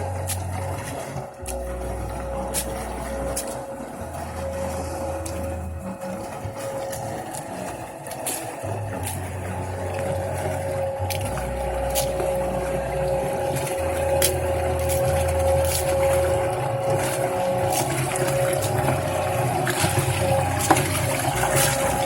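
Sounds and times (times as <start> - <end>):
low motor drone: 0.0 - 22.0
washing machine whine: 0.0 - 22.0.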